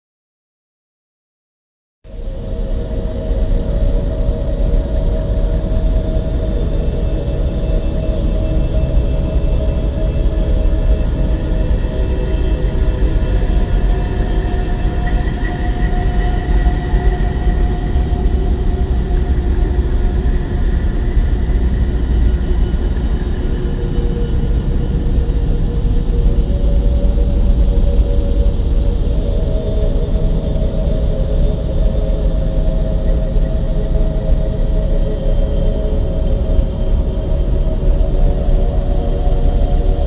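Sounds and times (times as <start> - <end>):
deep rumbling drone: 2.1 - 40.0.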